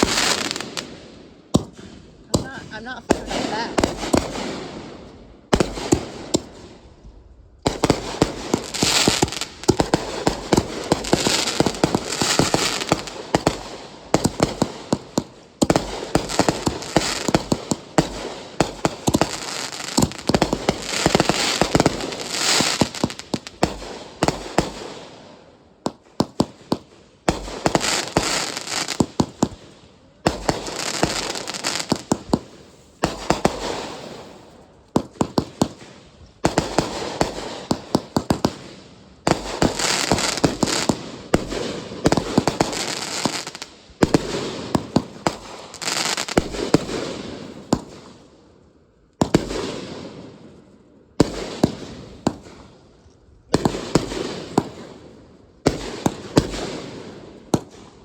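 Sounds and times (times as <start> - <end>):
fireworks cracks and bangs: 0.0 - 48.3, 49.2 - 58.0.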